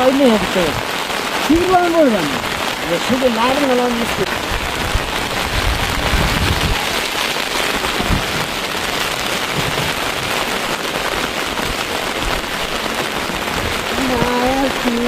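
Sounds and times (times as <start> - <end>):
steady rain pattering: 0.0 - 15.0.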